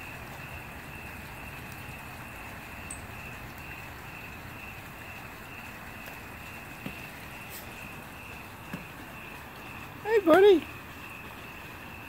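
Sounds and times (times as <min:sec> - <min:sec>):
fire crackle: 0:00.0 - 0:12.0
night insects trilling: 0:00.0 - 0:12.0
wood fire hissing: 0:00.0 - 0:12.0.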